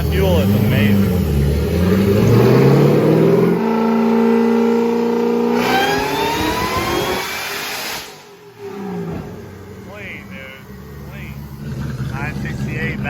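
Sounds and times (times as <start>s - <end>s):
engine revving at full throttle: 0.0s - 13.0s.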